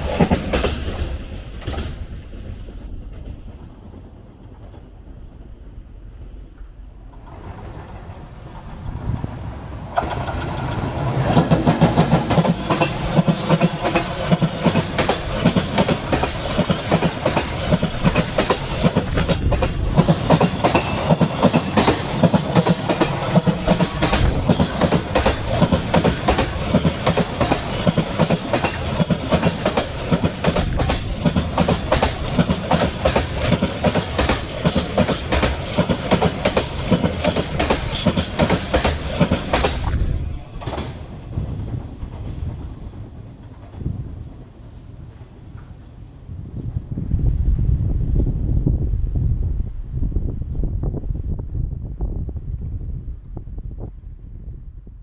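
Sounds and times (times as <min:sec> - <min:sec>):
freight train wheels clattering: 0:00.0 - 0:45.9.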